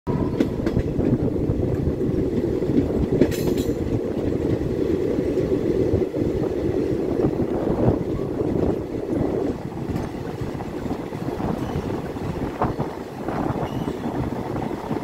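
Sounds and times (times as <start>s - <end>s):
train wheels rumbling on rails: 0.1s - 15.0s.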